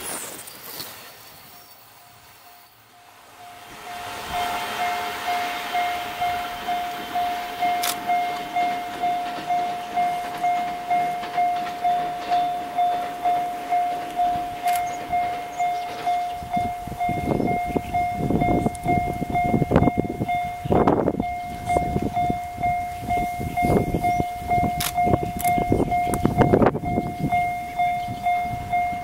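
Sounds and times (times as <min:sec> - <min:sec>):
level crossing bell dinging: 0:03.0 - 0:29.0.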